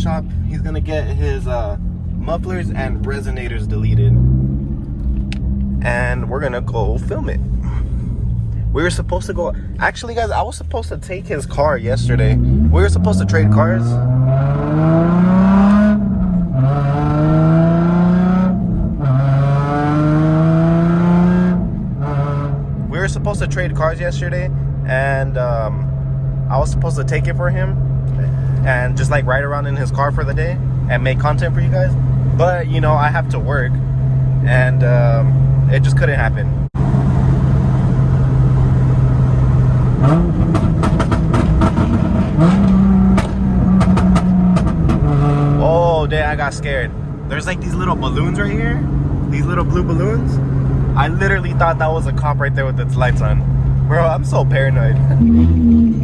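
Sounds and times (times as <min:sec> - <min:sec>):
car engine accelerating hard: 0:00.0 - 0:56.0.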